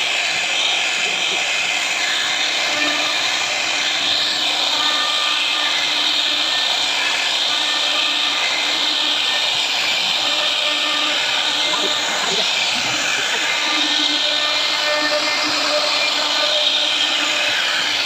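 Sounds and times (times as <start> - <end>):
cnc router cutting wood: 0.0 - 18.0.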